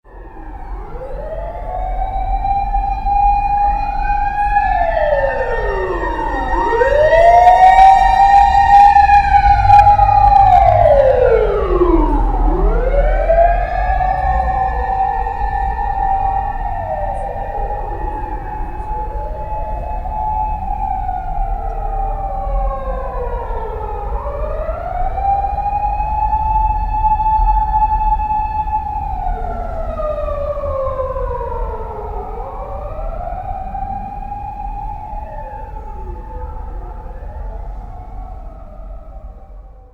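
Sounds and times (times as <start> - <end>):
fire truck siren wailing: 0.0 - 39.9
truck engine rumble: 0.0 - 39.9.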